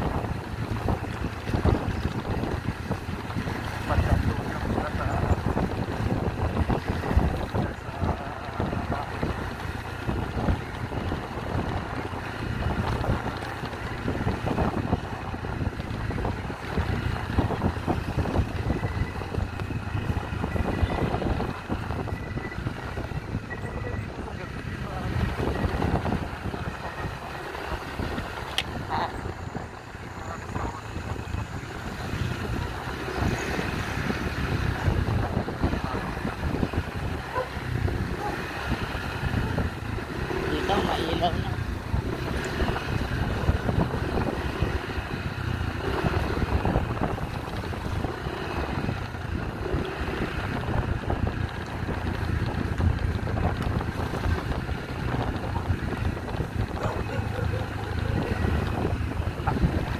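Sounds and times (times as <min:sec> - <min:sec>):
motorcycle engine drone: 0:00.0 - 0:59.9
wind buffeting microphone: 0:00.0 - 0:59.9.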